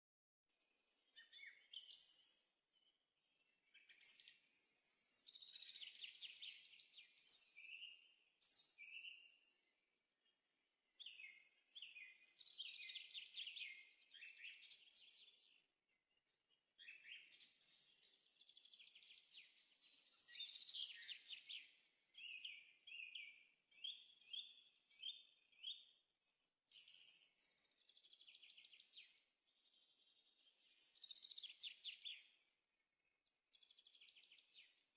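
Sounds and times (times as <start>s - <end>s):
faint songbirds chirping: 0.5s - 34.9s.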